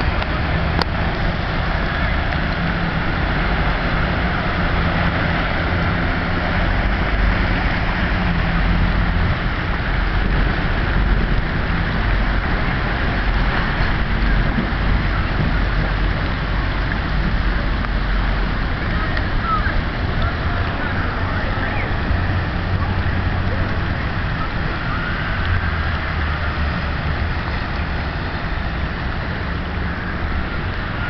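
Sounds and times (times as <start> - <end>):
low engine rumble: 0.0 - 31.0
vehicles driving through floodwater: 0.0 - 31.0.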